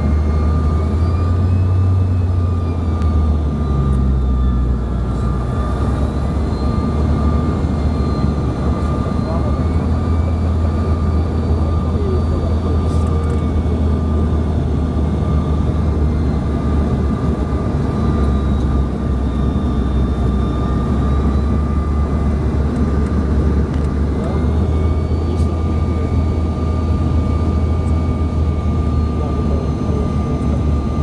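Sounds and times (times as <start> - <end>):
jet cabin rumble and engine whine: 0.0 - 31.0.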